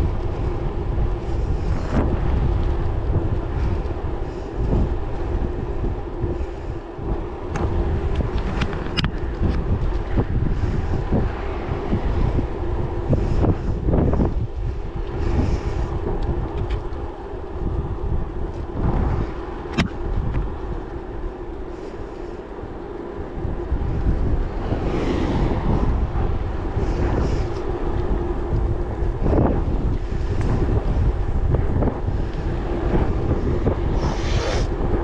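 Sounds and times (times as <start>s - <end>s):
bicycle ride rumble: 0.0s - 35.0s
wind buffeting microphone: 0.0s - 35.0s.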